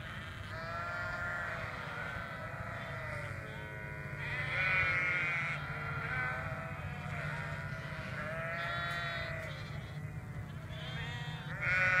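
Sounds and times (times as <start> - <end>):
sheep bleating: 0.0 - 12.0.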